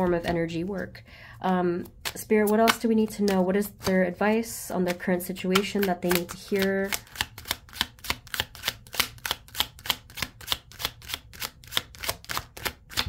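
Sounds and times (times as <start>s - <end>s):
cards being shuffled: 1.7s - 13.0s.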